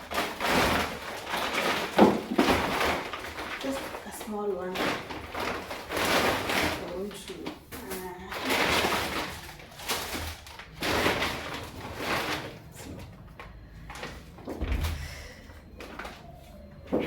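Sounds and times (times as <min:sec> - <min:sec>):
package wrapping rustling: 0:00.0 - 0:17.0.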